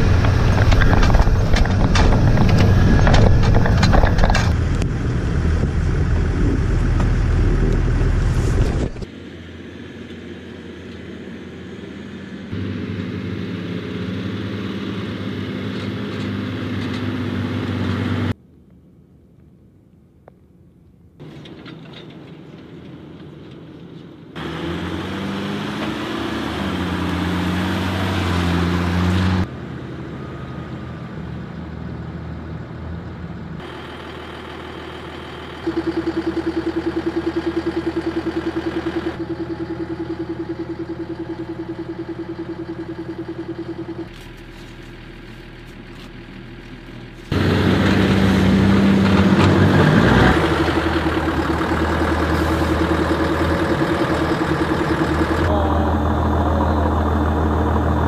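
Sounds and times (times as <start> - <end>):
vehicle engines running: 0.0 - 18.4, 21.2 - 58.0.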